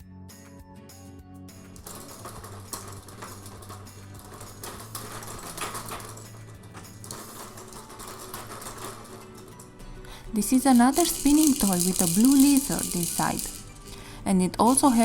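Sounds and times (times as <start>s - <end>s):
soft background music: 0.0s - 15.0s
plastic spinning toy rattling: 1.7s - 15.0s.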